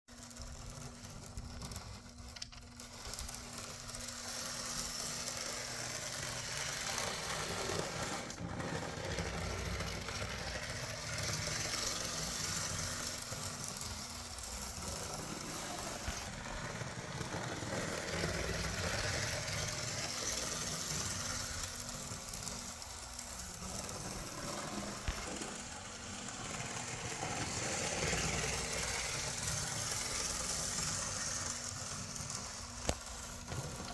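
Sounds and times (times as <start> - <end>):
small electric motor whirring: 0.1 - 33.9
wheels rattling on rails: 3.8 - 33.9.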